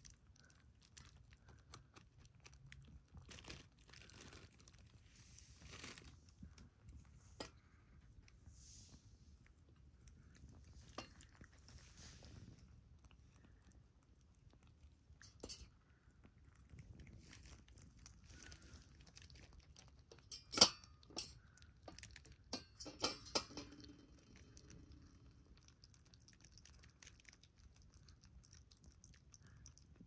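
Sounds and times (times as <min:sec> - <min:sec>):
rabbits chewing: 0:00.0 - 0:30.0.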